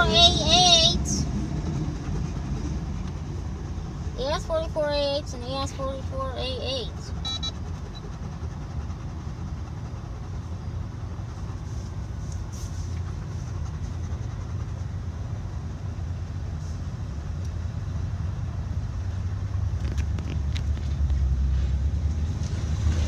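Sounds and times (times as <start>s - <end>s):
vehicle engine low rumble: 0.0s - 23.0s.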